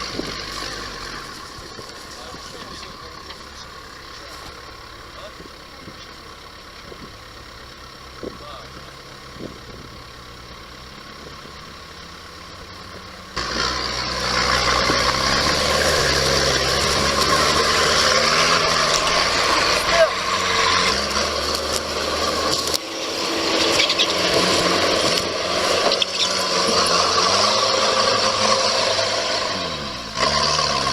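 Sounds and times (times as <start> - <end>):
vehicle engine droning: 0.0 - 30.9.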